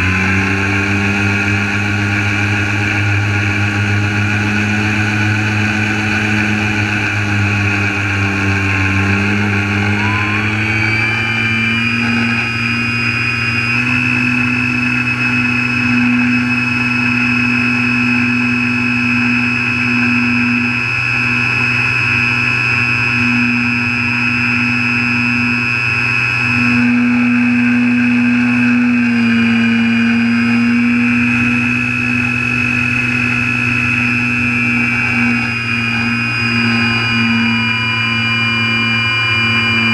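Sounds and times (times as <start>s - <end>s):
model aircraft motor whine: 0.0s - 39.9s.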